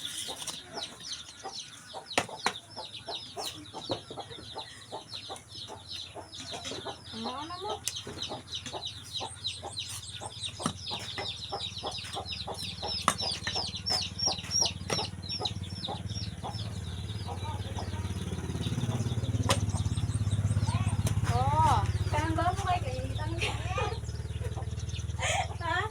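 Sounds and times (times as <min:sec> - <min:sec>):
chicks peeping: 0:00.0 - 0:25.9.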